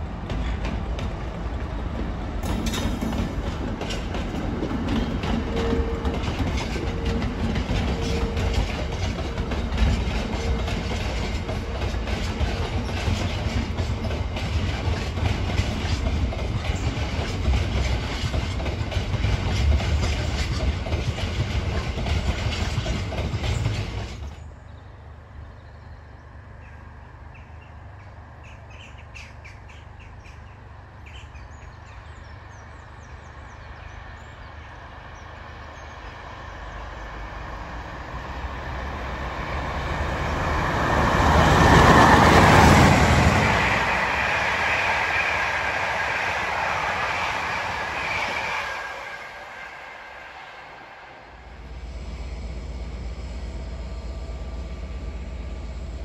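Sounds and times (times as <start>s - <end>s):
diesel locomotive passing with wagons: 0.0s - 56.0s
diesel locomotives approaching at speed: 0.0s - 56.0s
wheel and rail noise: 0.0s - 56.0s.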